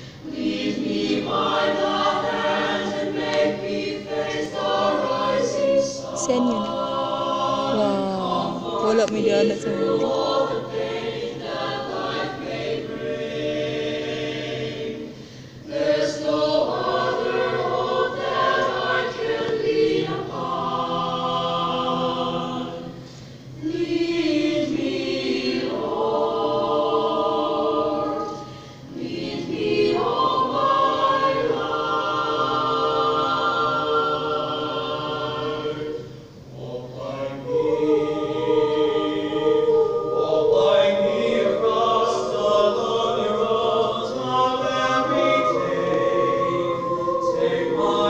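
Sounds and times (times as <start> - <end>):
choir singing a hymn: 0.0 - 48.0.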